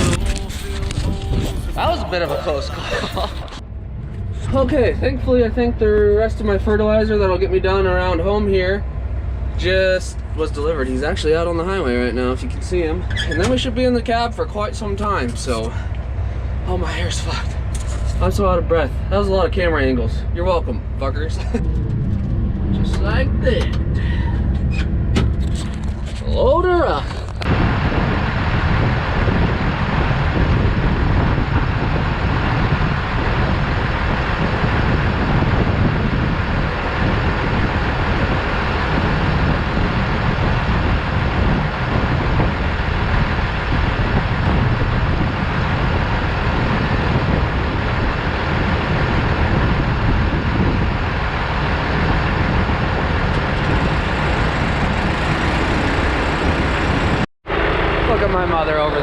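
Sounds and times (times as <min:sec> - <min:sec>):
engine droning steadily: 0:00.0 - 0:59.0.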